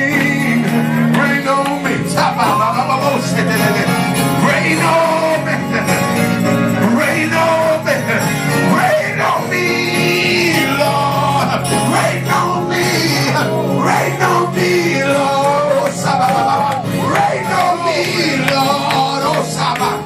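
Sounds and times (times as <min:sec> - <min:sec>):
church band playing gospel music: 0:00.0 - 0:20.0
people singing: 0:00.0 - 0:20.0.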